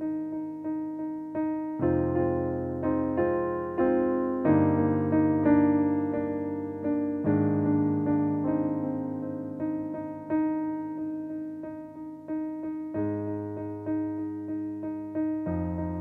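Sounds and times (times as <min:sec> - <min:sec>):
smooth jazz piano: 0:00.0 - 0:16.0.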